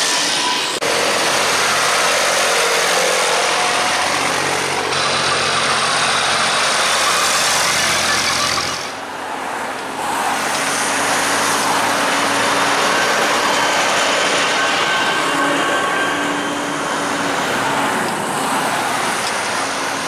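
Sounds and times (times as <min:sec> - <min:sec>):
tractor diesel engines: 0:00.0 - 0:20.0.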